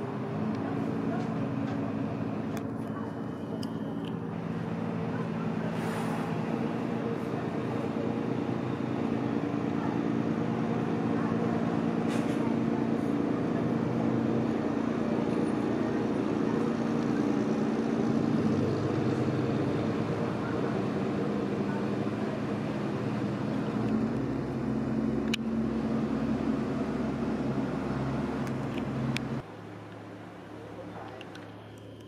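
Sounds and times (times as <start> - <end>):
boat engines droning: 0.0 - 32.0.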